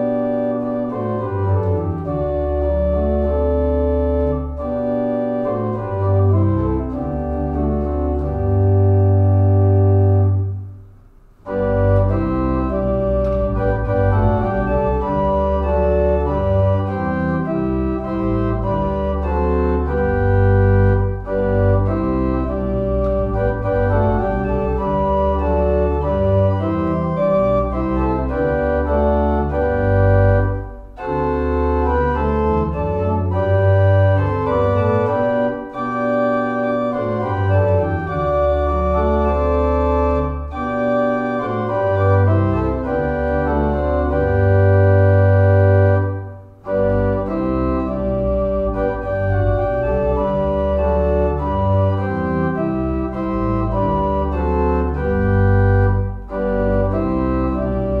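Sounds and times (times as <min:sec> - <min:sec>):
organ playing slow chords: 0:00.0 - 0:58.0.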